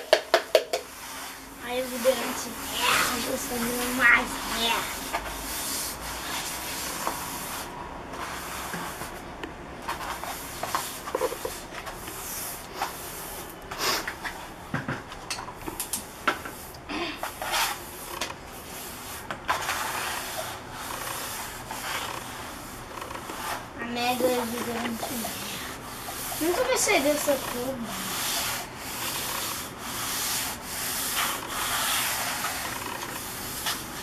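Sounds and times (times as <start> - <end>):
brush scrubbing wet paint on paper: 0.0 - 9.2, 9.9 - 14.3, 16.1 - 34.0.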